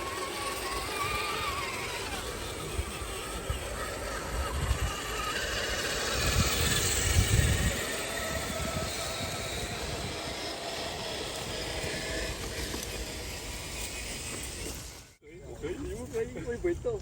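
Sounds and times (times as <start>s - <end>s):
rc car motor and gears whining: 0.0s - 17.0s.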